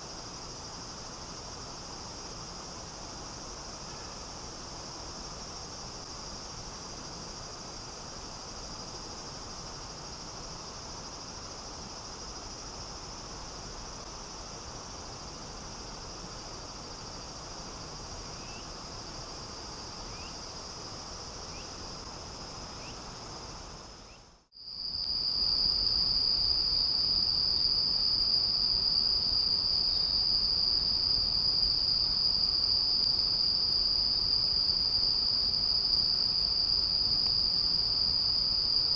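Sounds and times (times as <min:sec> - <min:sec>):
flowing water hiss: 0:00.0 - 0:38.8
insects trilling: 0:00.4 - 0:38.9.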